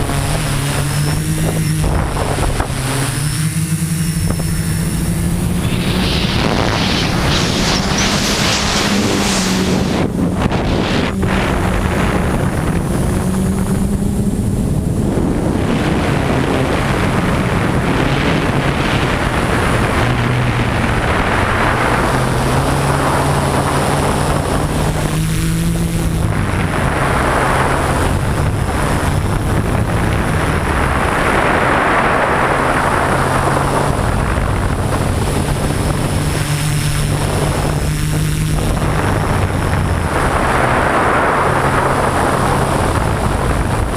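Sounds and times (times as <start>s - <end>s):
drone propellers buzzing: 0.0s - 43.9s
wind on microphone: 0.0s - 43.9s.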